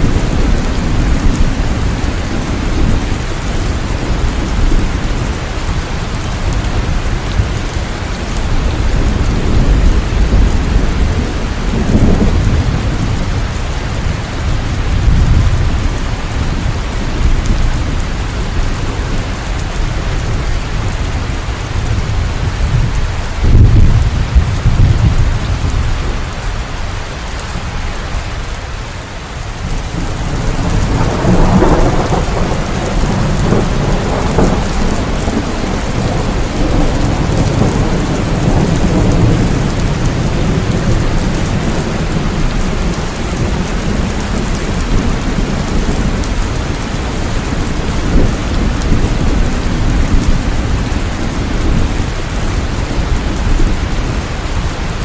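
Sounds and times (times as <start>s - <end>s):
rain falling: 0.0s - 55.0s
thunder rumbling: 0.0s - 55.0s.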